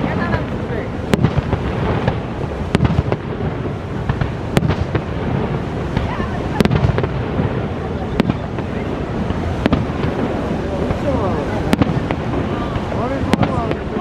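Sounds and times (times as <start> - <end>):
firework shells bursting: 0.0 - 14.0.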